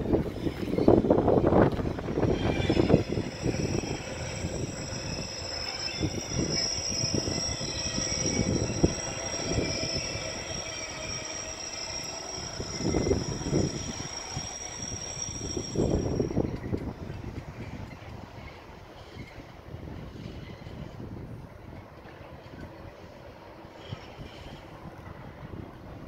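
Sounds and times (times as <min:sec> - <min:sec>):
electric train running slowly: 0:00.0 - 0:26.0
high-pitched train whine: 0:00.0 - 0:26.0
wind hitting microphone: 0:00.0 - 0:26.0.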